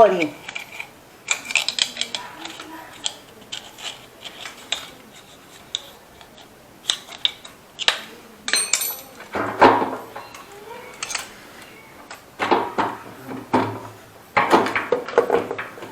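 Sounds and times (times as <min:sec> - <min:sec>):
metal tools clicking and scraping: 0:00.0 - 0:12.9.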